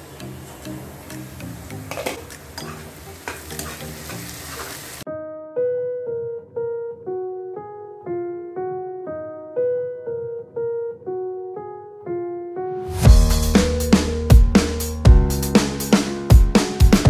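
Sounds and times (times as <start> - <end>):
simple piano melody: 0.0 - 4.4, 5.0 - 17.0.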